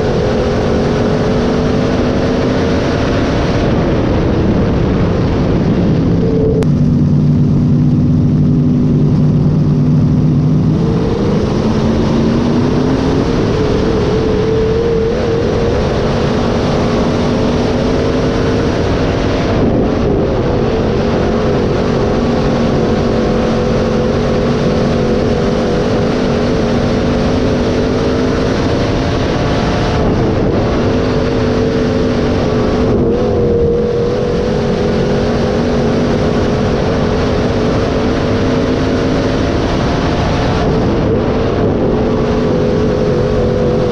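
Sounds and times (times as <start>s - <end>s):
race car engine running hard: 0.0s - 43.9s.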